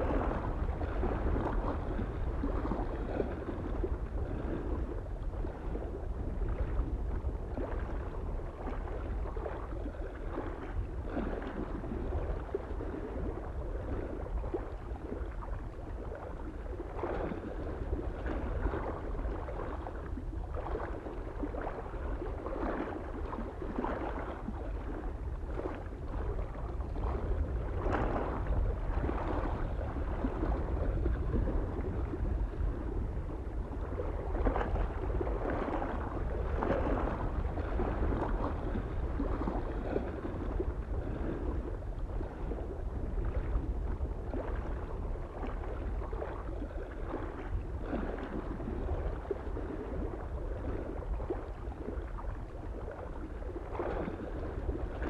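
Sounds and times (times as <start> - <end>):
low wind rumble: 0.0 - 55.0
small waves lapping at shore: 0.0 - 55.0.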